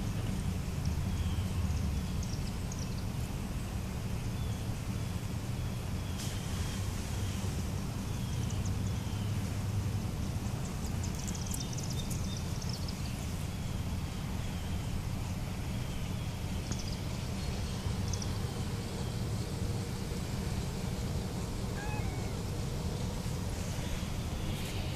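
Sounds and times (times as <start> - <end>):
low outdoor rumble: 0.0 - 24.9.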